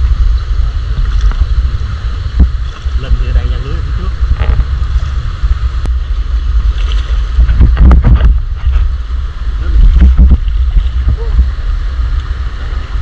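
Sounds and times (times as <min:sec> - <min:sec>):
stream water rushing: 0:00.0 - 0:13.0
wind buffeting microphone: 0:00.0 - 0:13.0.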